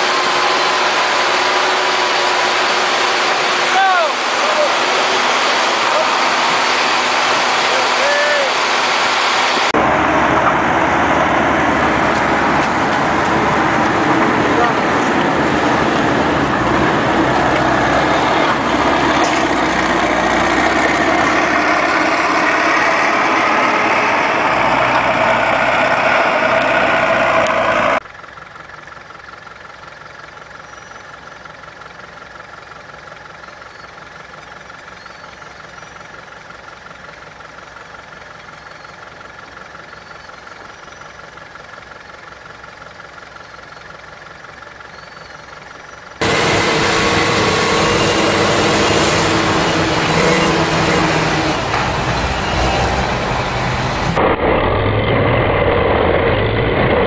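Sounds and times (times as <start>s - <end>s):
combine harvester engine hum: 0.0s - 57.0s
tractor engine working hard: 0.0s - 57.0s.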